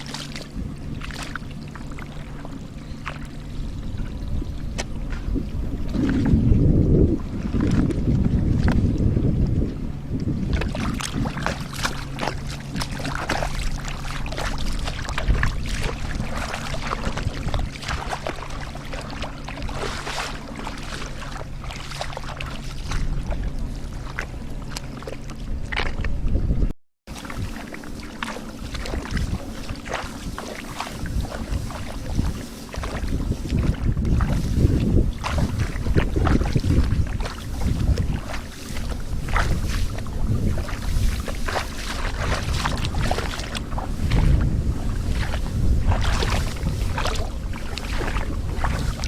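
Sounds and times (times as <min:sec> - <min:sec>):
steady low hum: 0:00.0 - 0:49.0
water splashing and sloshing: 0:00.0 - 0:49.0
wind rumble on microphone: 0:00.0 - 0:49.0.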